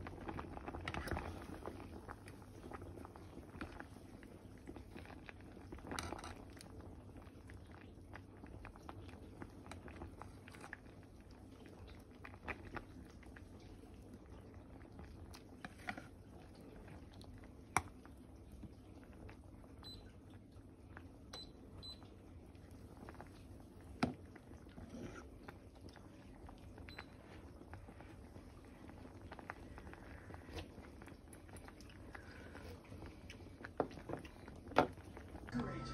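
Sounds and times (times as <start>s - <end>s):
soup boiling with bubbling: 0.0s - 35.9s.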